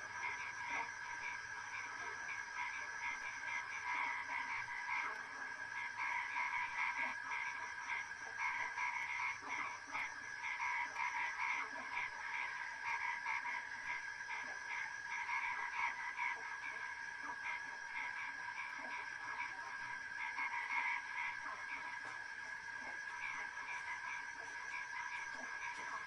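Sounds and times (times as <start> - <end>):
continuous animal calls: 0.0 - 26.0.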